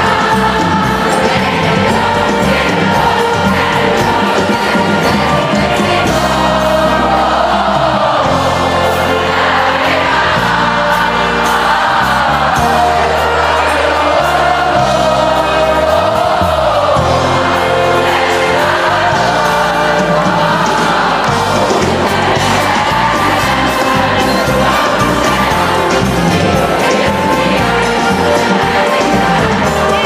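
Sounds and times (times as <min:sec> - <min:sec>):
crowd singing along: 0:00.0 - 0:30.0
live band playing: 0:00.0 - 0:30.0.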